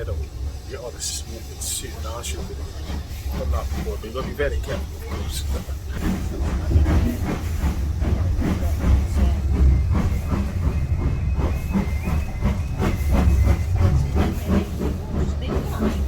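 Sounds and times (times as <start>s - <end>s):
steam train rumbling and clattering: 0.0s - 16.0s.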